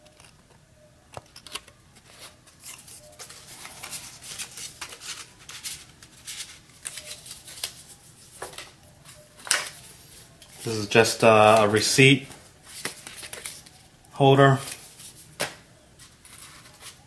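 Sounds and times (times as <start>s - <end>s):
paper cards rustling: 0.0s - 17.0s.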